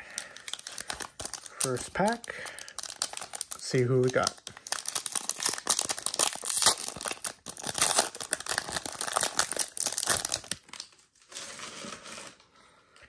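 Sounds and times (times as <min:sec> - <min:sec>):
foil pack tearing and crinkling: 0:00.2 - 0:12.3.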